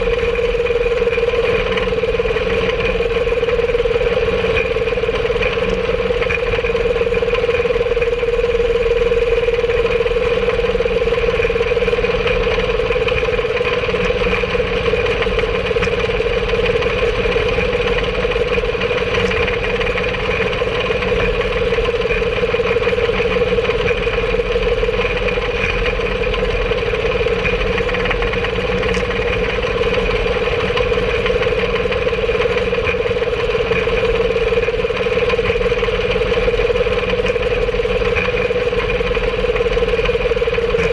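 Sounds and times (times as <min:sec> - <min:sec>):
rail cart engine droning: 0:00.0 - 0:40.9.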